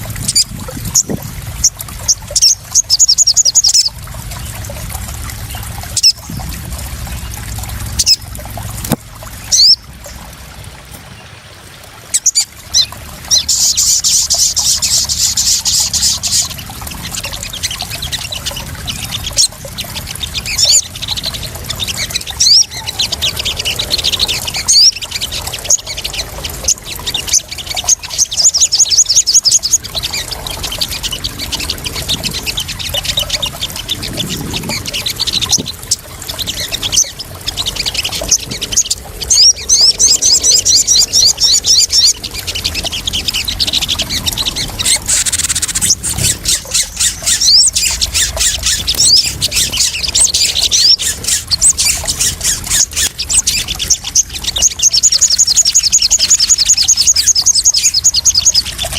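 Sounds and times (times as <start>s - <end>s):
small birds chirping and trilling: 0.0s - 11.4s, 12.0s - 58.9s
water trickling and splashing: 0.0s - 58.9s.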